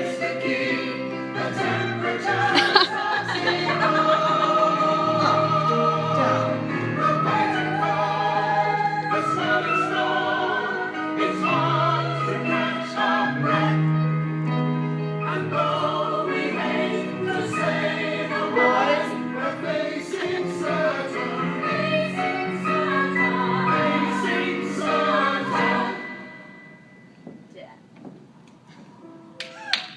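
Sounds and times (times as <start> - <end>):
chorus singing musical number: 0.0 - 27.1.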